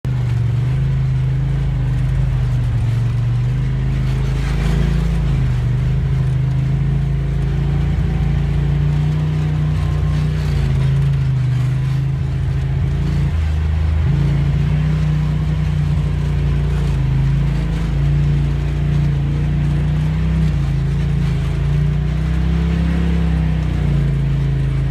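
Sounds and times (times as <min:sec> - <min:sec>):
vehicle engine running: 0:00.0 - 0:24.9.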